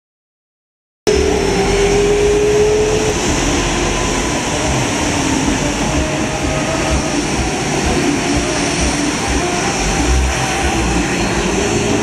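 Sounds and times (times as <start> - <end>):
jet engines running: 1.1 - 12.0.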